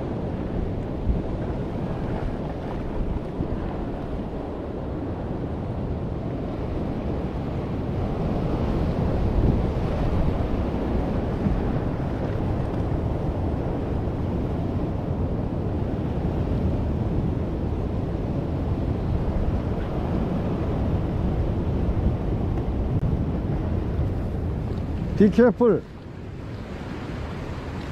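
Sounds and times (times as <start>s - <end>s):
ocean surf washing over rocks: 0.0s - 27.9s
wind rumbling on microphone: 0.0s - 27.9s.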